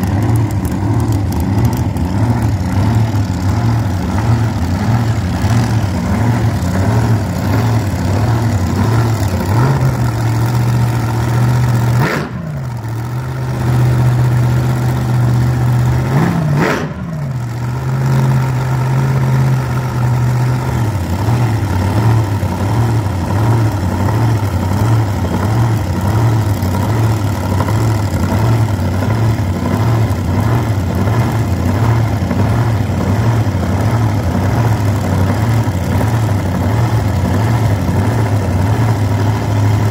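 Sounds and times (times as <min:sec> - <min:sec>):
dragster engine idling loudly: 0:00.0 - 0:39.9.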